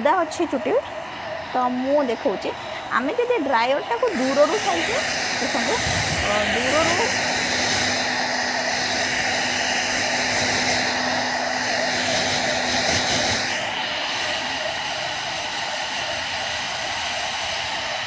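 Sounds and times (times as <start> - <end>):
hair dryer blowing: 0.0 - 18.0.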